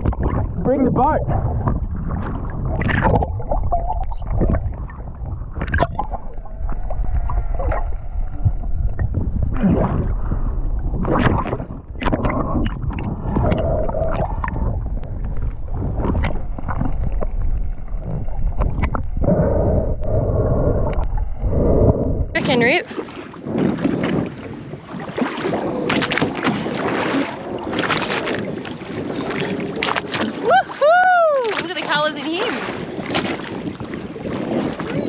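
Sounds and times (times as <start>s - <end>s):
underwater rumble of moving water: 0.0s - 35.0s.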